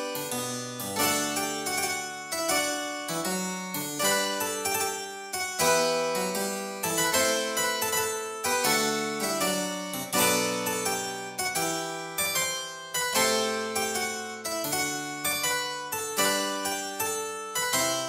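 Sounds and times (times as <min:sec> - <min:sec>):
keyboard instrument classical piece: 0:00.0 - 0:18.0.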